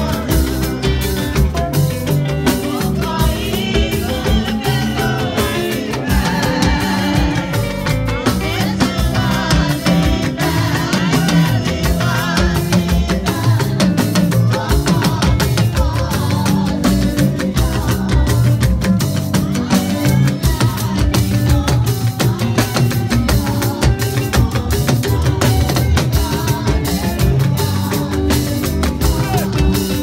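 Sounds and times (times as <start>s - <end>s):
bass guitar: 0.0s - 30.0s
church band music: 0.0s - 30.0s
drum kit: 0.0s - 30.0s
talking drums: 0.0s - 30.0s.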